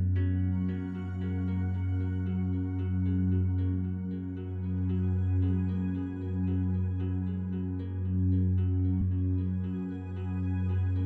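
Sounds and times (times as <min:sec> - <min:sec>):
low drone: 0:00.0 - 0:11.0.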